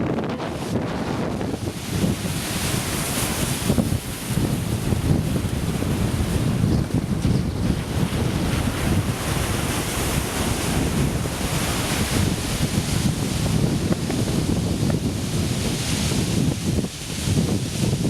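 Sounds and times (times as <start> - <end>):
surf breaking and rushing: 0.0 - 18.0
wind buffeting microphone: 0.0 - 18.0.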